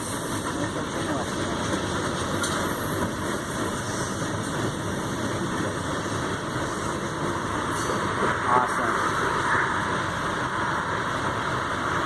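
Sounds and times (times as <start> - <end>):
diesel freight train rumbling: 0.0 - 12.0.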